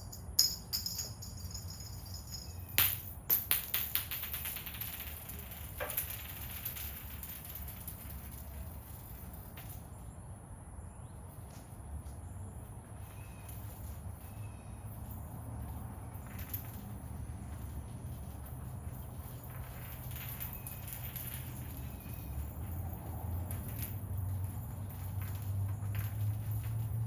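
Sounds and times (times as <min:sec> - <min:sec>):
cat toy balls rattling: 0:00.0 - 0:09.9, 0:14.9 - 0:27.0.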